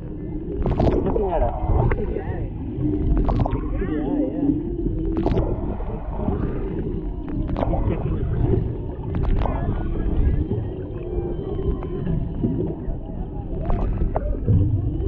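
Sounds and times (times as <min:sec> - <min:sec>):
low water rumble: 0:00.0 - 0:15.0
whale vocalizations: 0:00.0 - 0:15.0.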